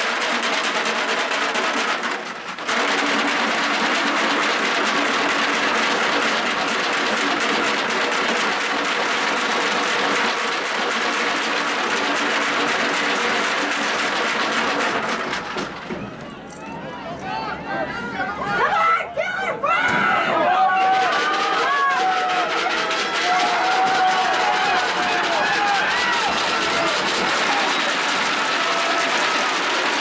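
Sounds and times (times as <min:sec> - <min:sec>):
spectators cheering and clapping: 0:00.0 - 0:30.0.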